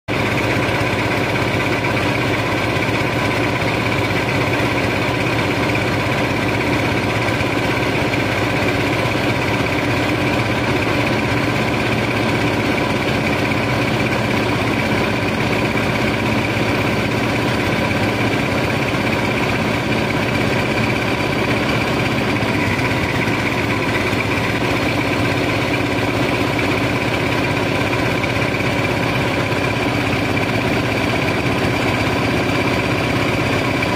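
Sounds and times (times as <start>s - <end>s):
engine and machinery droning: 0.1s - 33.9s.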